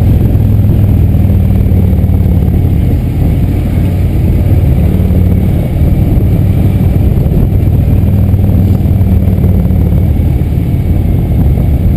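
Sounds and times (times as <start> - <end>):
motorcycle engines rumbling: 0.0 - 11.9.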